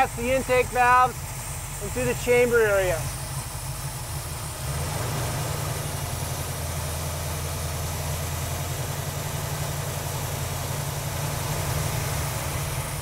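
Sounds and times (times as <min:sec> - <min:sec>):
car engine fast idle: 0:00.0 - 0:13.0.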